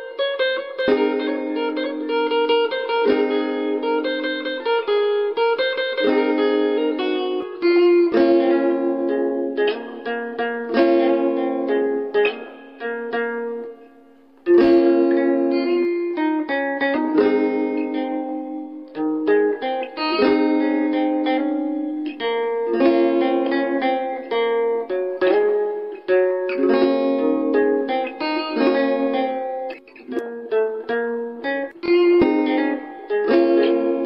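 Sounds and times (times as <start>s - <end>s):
classical guitar fingerstyle: 0.0s - 34.0s.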